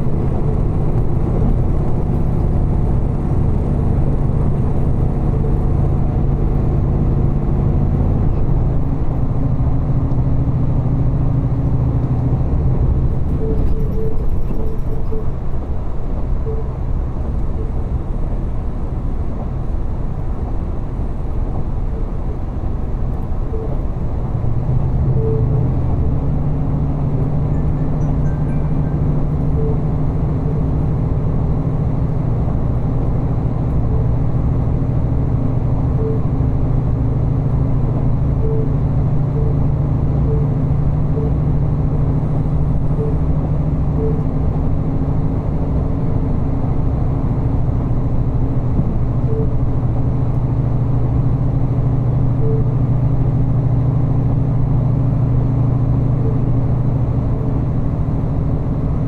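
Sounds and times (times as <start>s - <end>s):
railcar engine drone: 0.0s - 59.0s.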